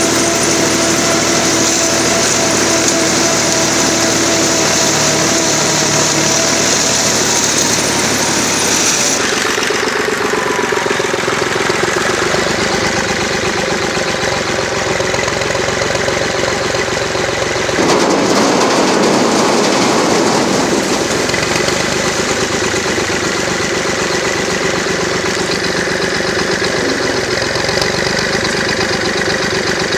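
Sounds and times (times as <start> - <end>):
corn picker running: 0.0 - 29.9
tractor engine: 0.0 - 29.9.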